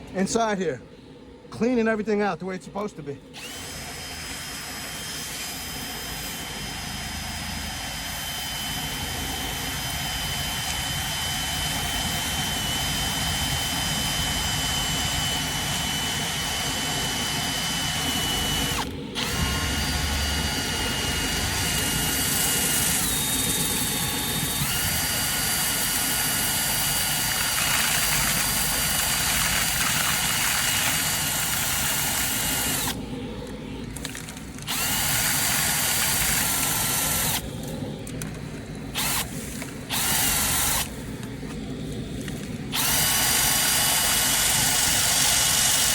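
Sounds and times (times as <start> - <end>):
drill motor whine: 3.3 - 41.0, 42.2 - 45.9.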